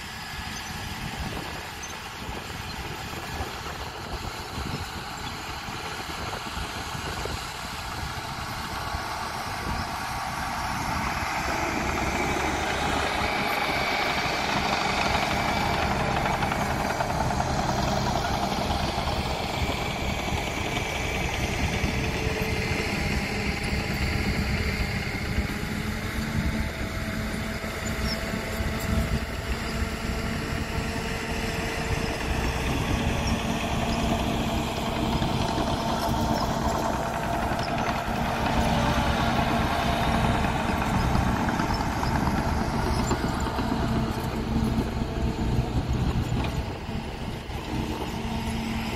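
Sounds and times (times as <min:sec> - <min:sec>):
truck diesel engine running: 0:00.0 - 0:48.9.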